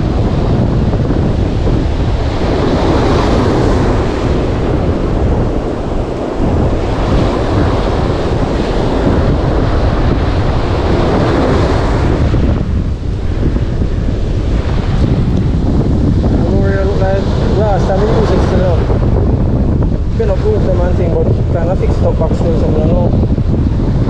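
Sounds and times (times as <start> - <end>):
surf breaking on beach: 0.0 - 24.0
wind buffeting microphone: 0.0 - 24.0.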